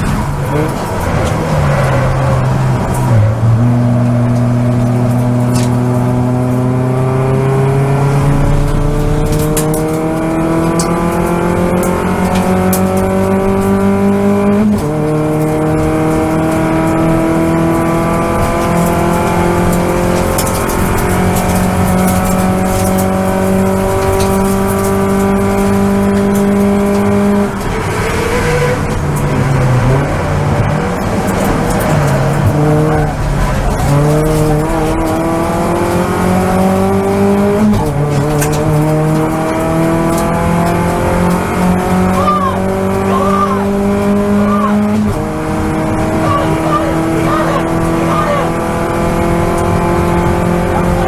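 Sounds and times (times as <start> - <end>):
race car engine at full throttle: 0.0 - 51.0.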